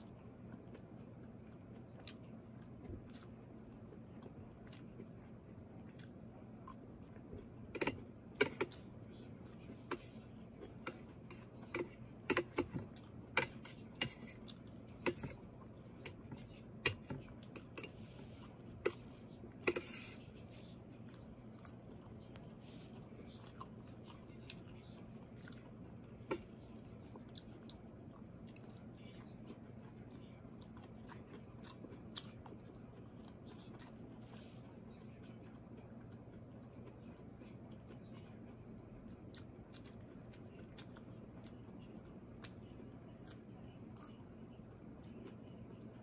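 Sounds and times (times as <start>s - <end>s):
chewing crunchy vegetable: 0.0s - 20.2s, 20.8s - 46.0s
low steady hum: 0.0s - 46.0s.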